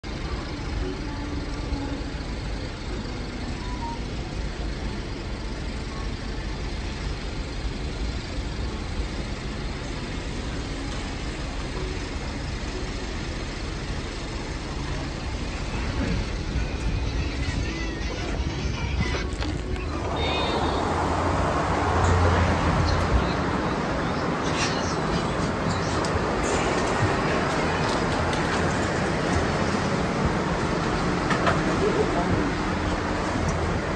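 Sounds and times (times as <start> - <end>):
city street traffic rumble: 0.0 - 33.9
electric bus pulling in: 0.0 - 33.9.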